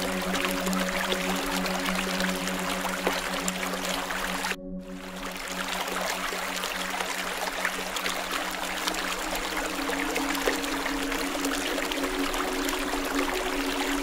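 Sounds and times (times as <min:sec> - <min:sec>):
stream rushing and trickling: 0:00.0 - 0:14.0.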